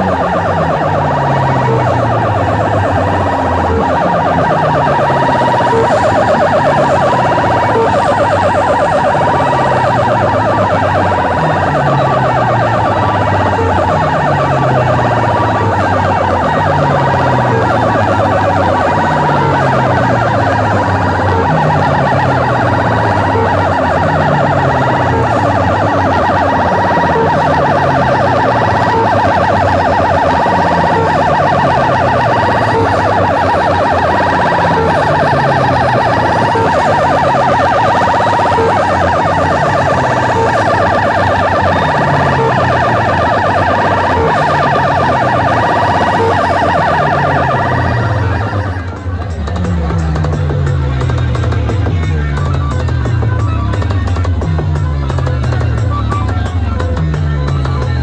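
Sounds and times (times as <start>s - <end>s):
siren-like electronic tone on loudspeakers: 0.0s - 58.0s.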